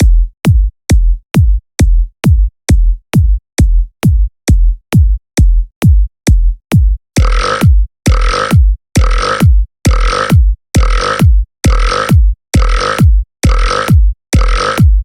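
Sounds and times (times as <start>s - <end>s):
drum machine kick drum: 0.0s - 15.0s.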